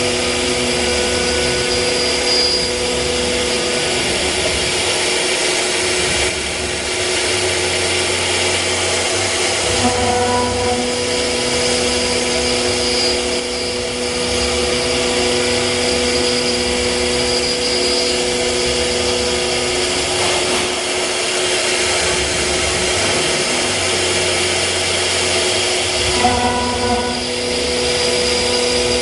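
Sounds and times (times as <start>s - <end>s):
cnc router whirring: 0.0s - 29.0s
steady hum tones: 0.0s - 29.0s.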